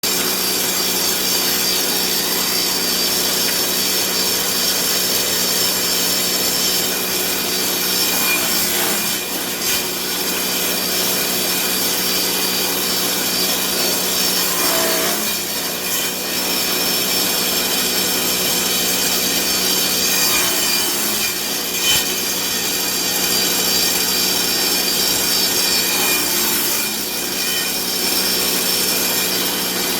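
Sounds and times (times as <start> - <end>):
electric saw cutting wood: 0.0 - 29.9.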